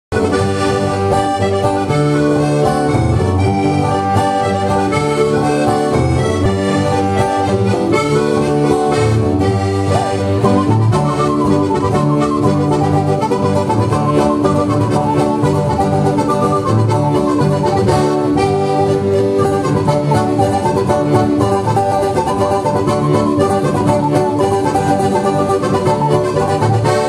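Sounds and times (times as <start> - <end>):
acoustic guitar accompaniment: 0.1 - 27.0
button accordion playing: 0.1 - 27.0.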